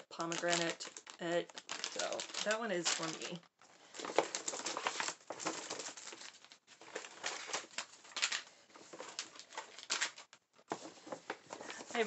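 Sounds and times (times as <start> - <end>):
shopping bag rustling and crinkling: 0.1 - 12.0.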